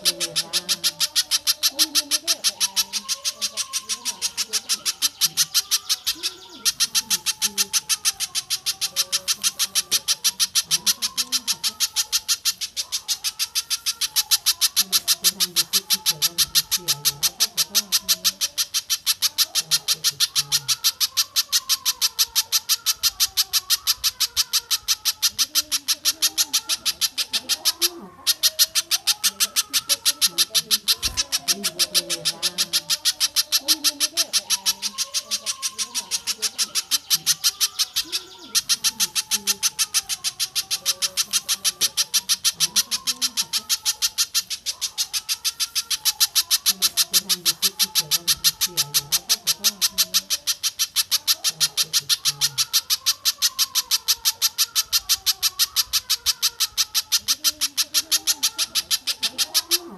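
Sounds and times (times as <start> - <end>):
bird call harsh rattle: 0.0 - 59.9.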